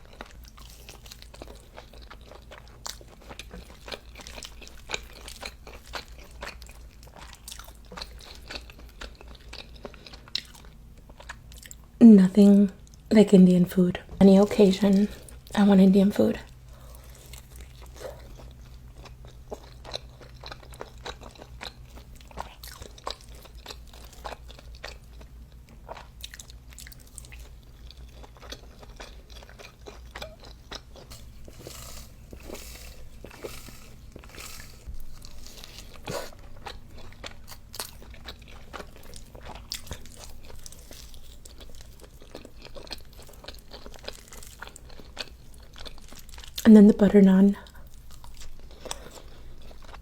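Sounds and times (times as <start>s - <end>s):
person chewing crunchy food: 0.0s - 11.9s, 16.5s - 46.7s, 47.6s - 50.0s
low steady hum: 0.0s - 50.0s.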